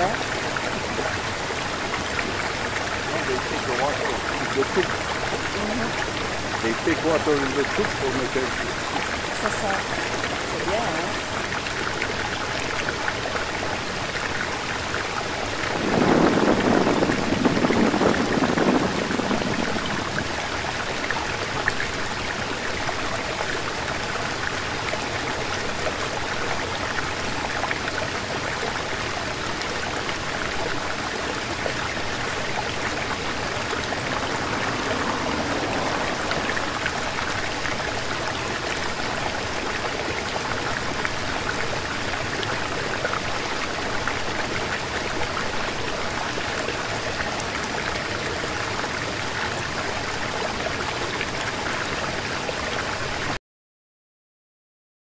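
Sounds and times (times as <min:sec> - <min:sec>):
stream water rushing: 0:00.0 - 0:53.4.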